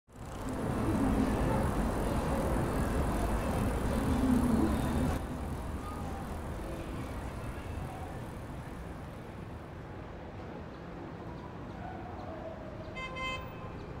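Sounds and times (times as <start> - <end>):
traffic rumble: 0.1 - 14.0.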